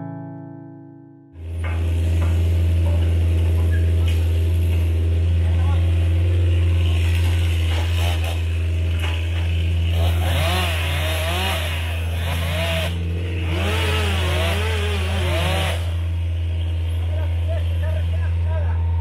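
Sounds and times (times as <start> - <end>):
chainsaw cutting wood: 1.4 - 17.8
low engine hum: 1.4 - 19.0.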